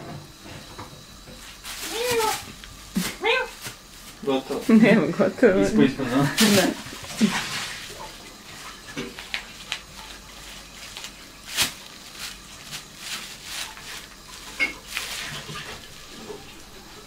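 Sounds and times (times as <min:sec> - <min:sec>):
plastic bags crinkling: 0:01.4 - 0:16.8.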